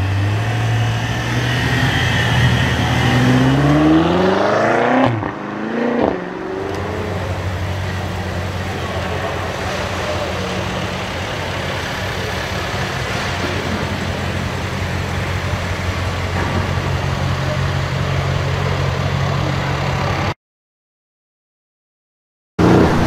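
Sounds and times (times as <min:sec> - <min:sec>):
car engine rumbling at low revs: 0:00.0 - 0:20.3.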